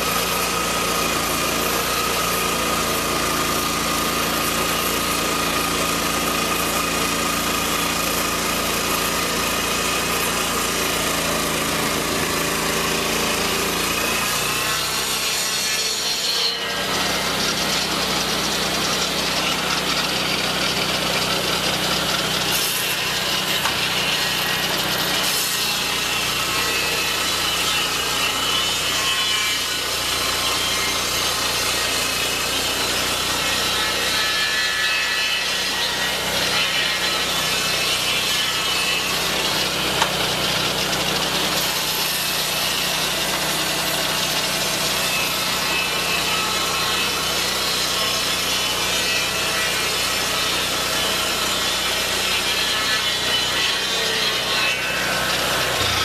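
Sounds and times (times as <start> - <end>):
circular saw cutting wood: 0.0 - 56.0.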